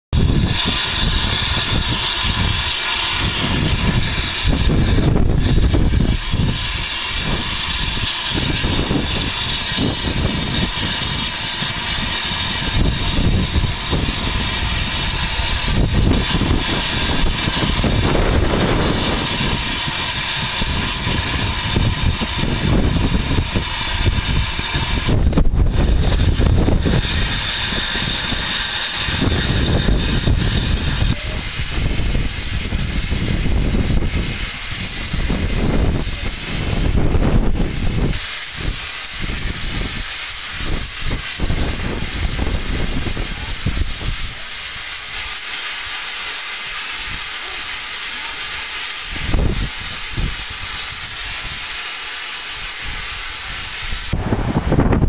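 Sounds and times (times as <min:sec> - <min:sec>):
wind buffeting microphone: 0:00.1 - 0:47.8, 0:48.4 - 0:51.8, 0:52.4 - 0:55.0.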